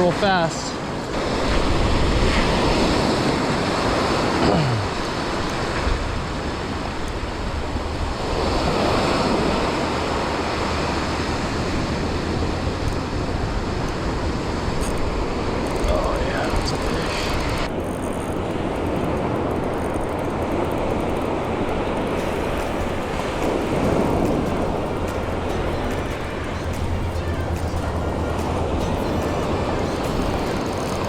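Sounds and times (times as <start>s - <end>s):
ocean surf breaking: 0.0s - 31.0s
wind rumbling on microphone: 0.0s - 31.0s.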